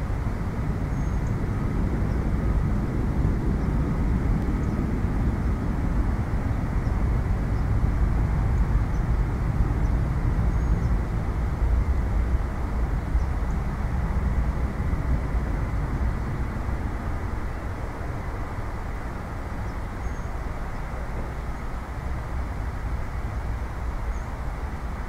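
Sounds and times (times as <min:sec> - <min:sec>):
distant city traffic rumble: 0:00.0 - 0:25.0.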